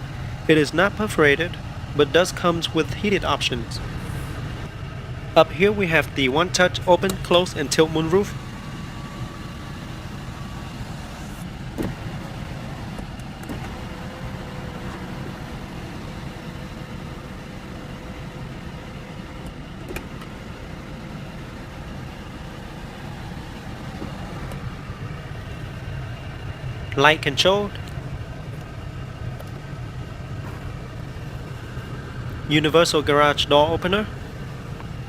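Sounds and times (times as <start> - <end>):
car cabin hum: 0.0 - 35.0.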